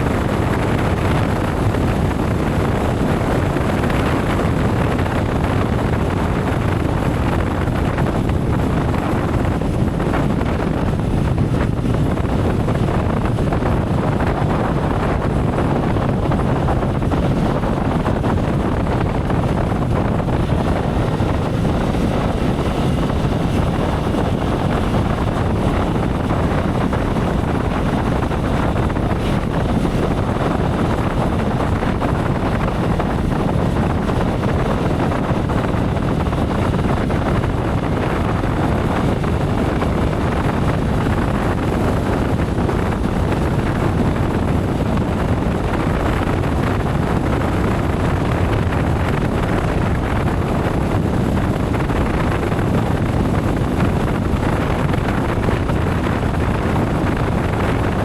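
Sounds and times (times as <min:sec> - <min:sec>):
motorcycle road noise: 0:00.0 - 0:58.0
wind on microphone: 0:00.0 - 0:58.0.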